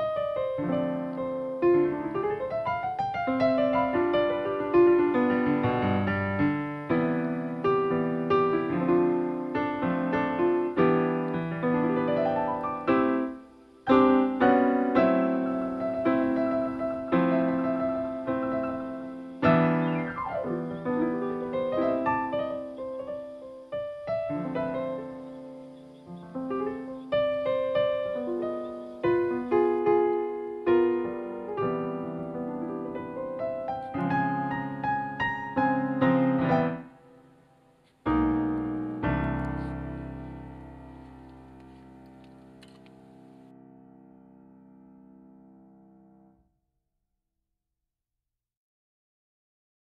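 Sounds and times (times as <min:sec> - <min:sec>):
gentle piano melody: 0:00.0 - 0:46.4.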